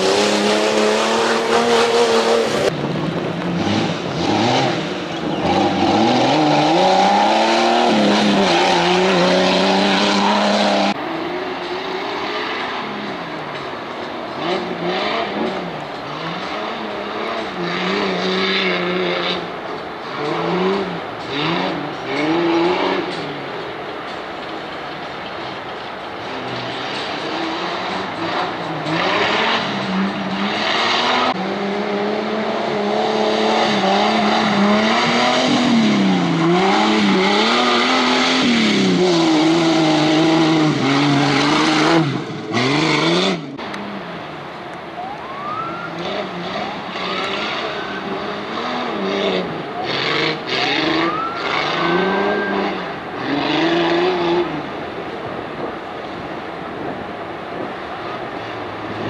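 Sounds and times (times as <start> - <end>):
car engine revving: 0.0 - 24.7, 26.2 - 59.0.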